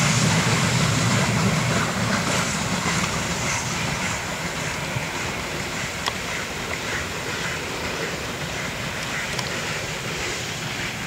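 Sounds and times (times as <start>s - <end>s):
steam train rolling: 0.0s - 11.0s.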